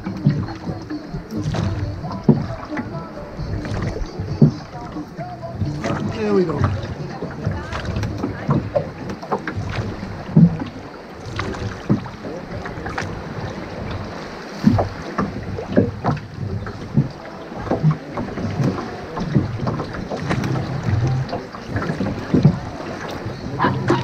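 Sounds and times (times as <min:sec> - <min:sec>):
oars knocking in rowlocks: 0:00.0 - 0:24.0
wind on microphone: 0:00.0 - 0:24.0.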